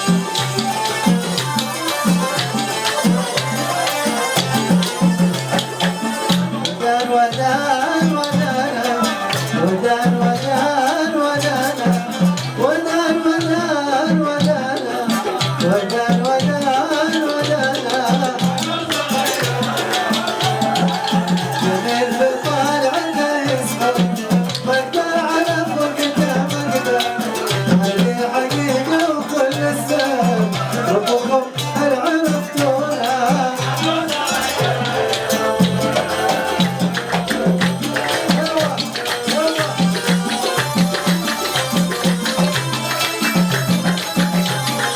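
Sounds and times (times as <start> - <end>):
arabic band music: 0.0 - 44.9
regular drum beat: 0.0 - 44.9
shaker hand percussion: 0.0 - 44.9.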